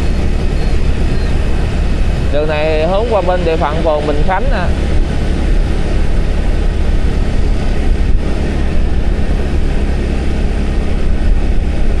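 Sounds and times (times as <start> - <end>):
motorbike engine: 0.0 - 12.0
tyres running on road: 0.0 - 12.0
wind rumble on microphone: 0.0 - 12.0.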